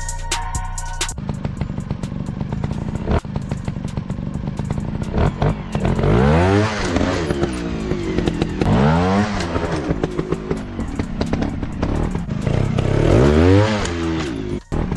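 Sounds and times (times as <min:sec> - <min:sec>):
dirt bike engines revving: 0:01.2 - 0:14.9.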